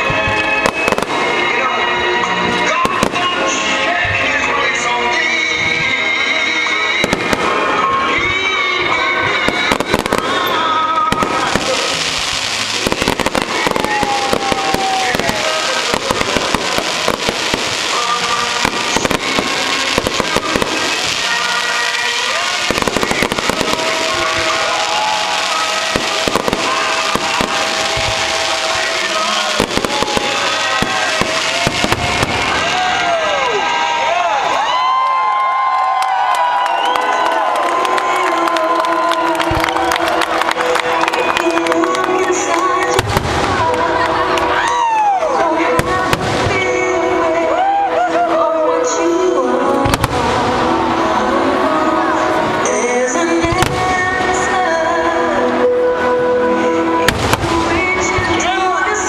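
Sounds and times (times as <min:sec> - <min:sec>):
fireworks bursting and crackling: 0:00.0 - 0:59.0
music playing: 0:00.0 - 0:59.0.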